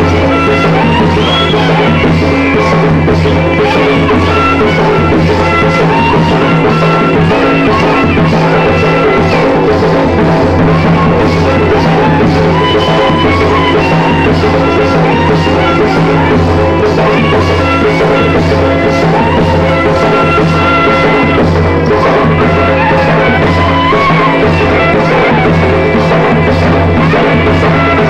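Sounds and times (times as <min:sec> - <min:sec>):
steady drumming: 0:00.0 - 0:28.0.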